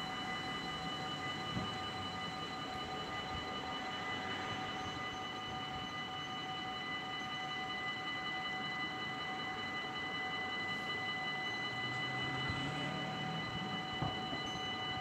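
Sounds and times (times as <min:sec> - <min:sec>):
level crossing warning bells: 0:00.0 - 0:15.0.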